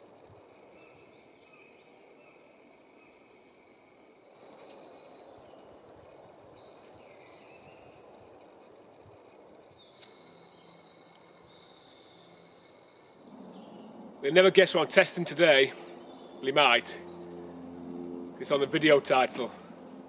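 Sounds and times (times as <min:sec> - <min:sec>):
faint steady hiss: 0:00.0 - 0:20.0
birds singing: 0:00.6 - 0:19.8.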